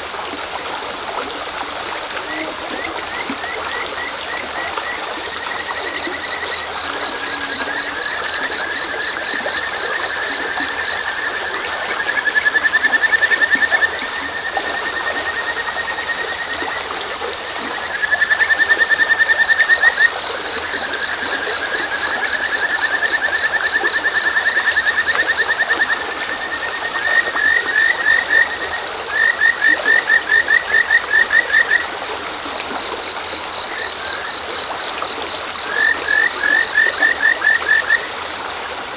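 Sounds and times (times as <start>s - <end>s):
cricket chirping: 0.0s - 38.9s
frogs calling in trills: 0.0s - 38.9s
stream rushing: 0.0s - 38.9s.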